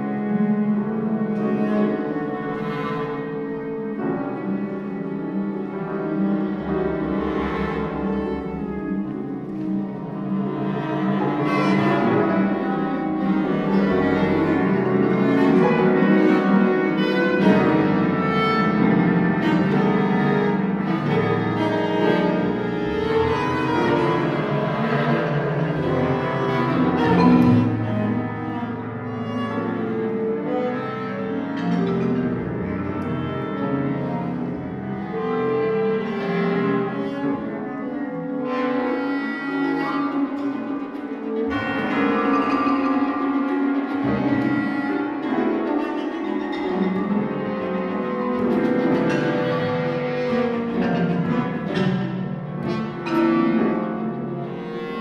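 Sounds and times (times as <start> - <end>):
bowed cellos and double basses: 0.0 - 55.0.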